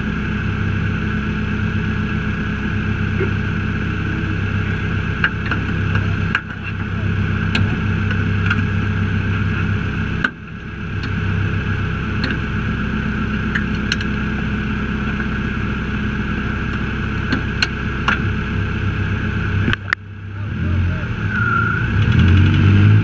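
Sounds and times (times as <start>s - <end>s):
truck engine idling: 0.0s - 21.8s.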